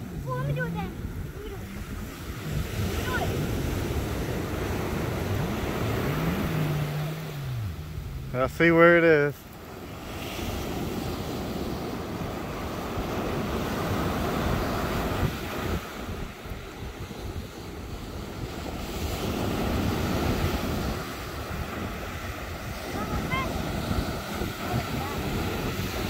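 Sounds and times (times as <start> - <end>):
ocean surf breaking on beach: 0.0 - 26.0
wind rumbling on microphone: 0.0 - 26.0.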